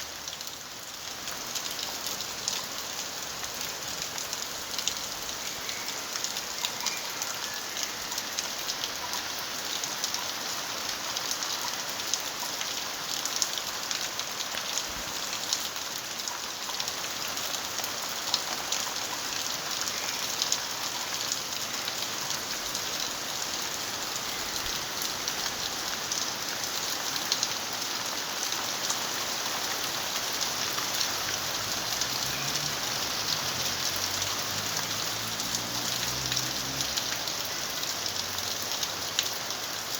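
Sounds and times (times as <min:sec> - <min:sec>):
raindrops pattering on surfaces: 0:00.0 - 0:39.9
steady rain falling: 0:00.0 - 0:39.9.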